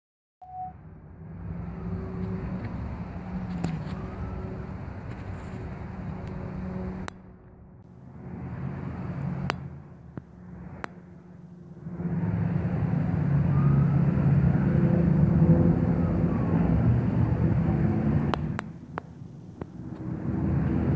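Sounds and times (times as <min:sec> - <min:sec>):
distant engine rumble: 0:00.5 - 0:20.9.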